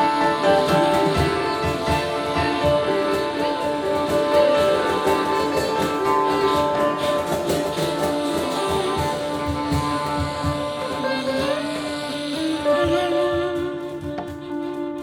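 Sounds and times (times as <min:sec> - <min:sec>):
drums: 0:00.0 - 0:15.0
long held melody notes: 0:00.0 - 0:15.0
plucked strings: 0:00.0 - 0:15.0.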